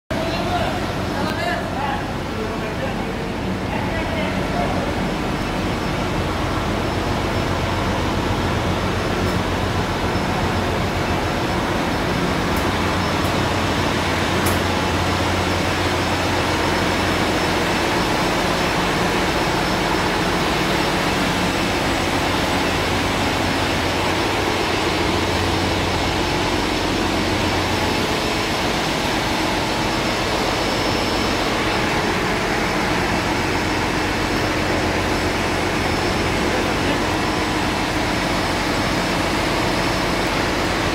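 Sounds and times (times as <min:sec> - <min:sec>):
marine diesel engine running: 0:00.1 - 0:40.9.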